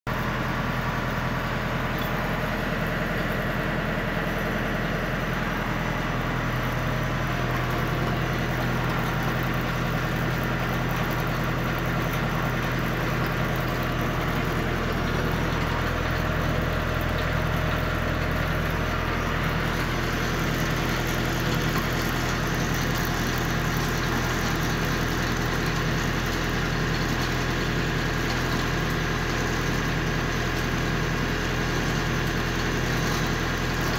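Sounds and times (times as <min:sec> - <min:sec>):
tractor engine humming: 0:00.1 - 0:33.9.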